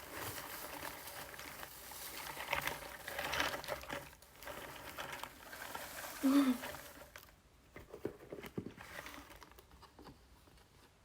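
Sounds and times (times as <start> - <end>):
packaging rustling and scraping: 0.0 - 10.8.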